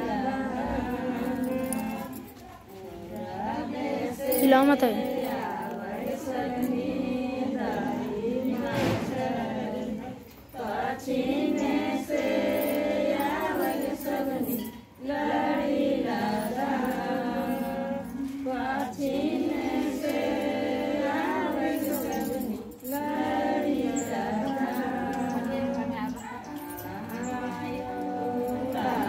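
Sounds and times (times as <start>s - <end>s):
women singing together: 0.0s - 29.0s.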